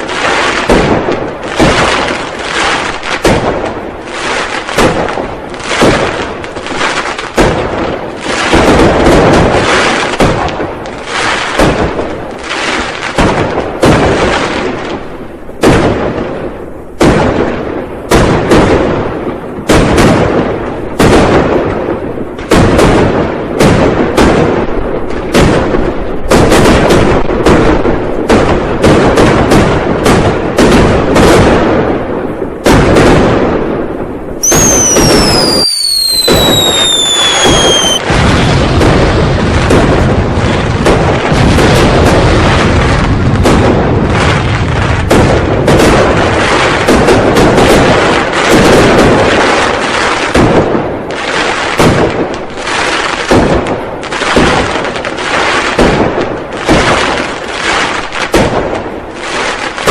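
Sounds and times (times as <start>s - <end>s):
firecrackers and fireworks exploding: 0.0s - 59.9s.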